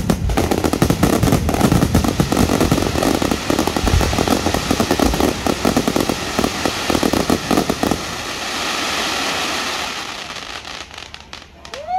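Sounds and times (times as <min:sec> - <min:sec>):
fireworks bangs and pops: 0:00.0 - 0:11.8
fizzing crackle of fireworks: 0:00.0 - 0:11.9.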